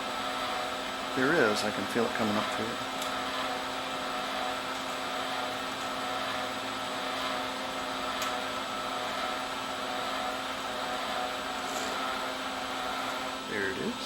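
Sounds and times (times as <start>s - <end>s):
welder wire-feed motor running: 0.0s - 14.0s.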